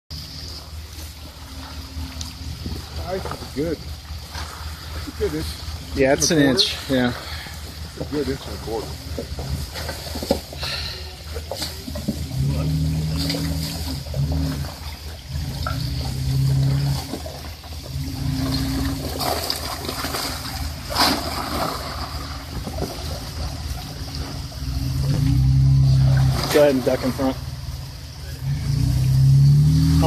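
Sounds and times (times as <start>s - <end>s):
car engine running at low speed: 0.1s - 30.0s
water splashing around tyres: 0.1s - 30.0s.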